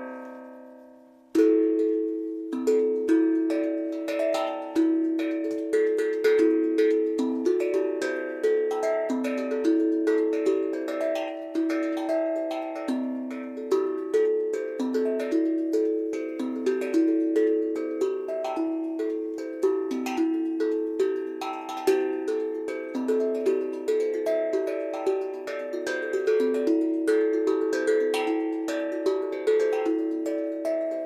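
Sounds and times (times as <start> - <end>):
steel tongue drum notes: 0.0 - 31.0.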